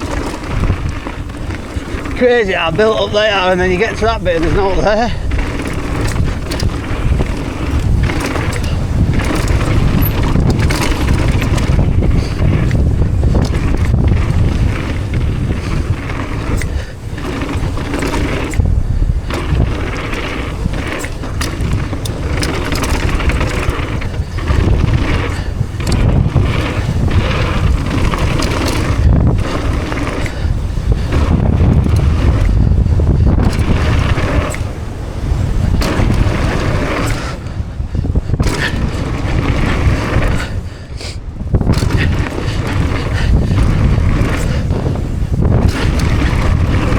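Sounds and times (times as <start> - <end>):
bike rattling and knocking: 0.0 - 46.9
bike tyres rolling on dirt: 0.0 - 46.9
wind rumble on microphone: 0.0 - 46.9.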